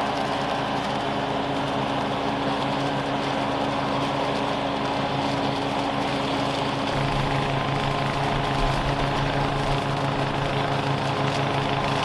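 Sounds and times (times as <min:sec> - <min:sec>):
lawn mower engine cutting grass: 0:00.0 - 0:12.0.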